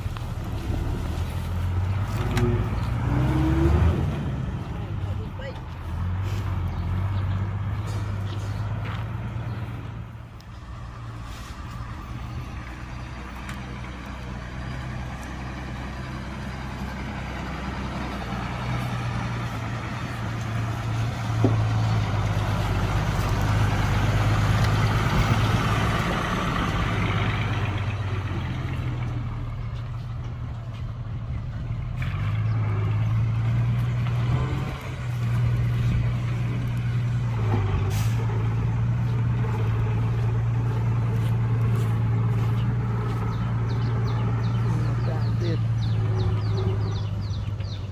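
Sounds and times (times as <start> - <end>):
construction machine diesel engine: 0.0 - 47.9.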